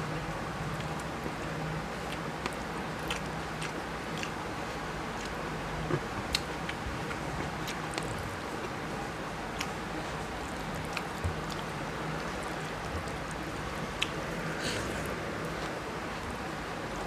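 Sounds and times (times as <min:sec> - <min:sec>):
steady low hum: 0:00.0 - 0:17.0
chewing: 0:02.0 - 0:08.9, 0:09.5 - 0:16.3.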